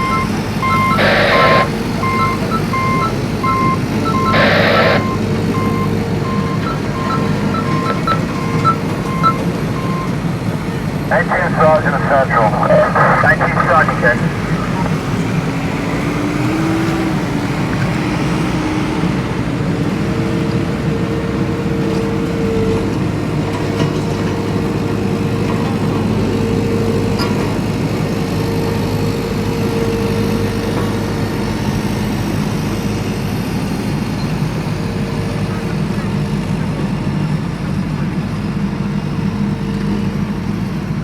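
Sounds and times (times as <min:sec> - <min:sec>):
off-road vehicle engine running: 0:00.0 - 0:41.0
road noise: 0:00.0 - 0:41.0.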